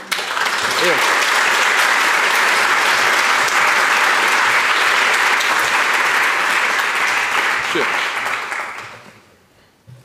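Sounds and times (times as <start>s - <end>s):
large audience applauding: 0.0s - 9.1s.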